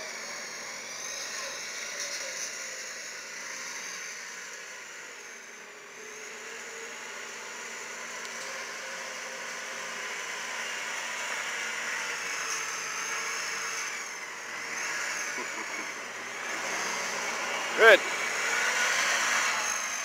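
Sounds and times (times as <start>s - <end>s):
utility vehicle engine whir: 0.0s - 20.0s.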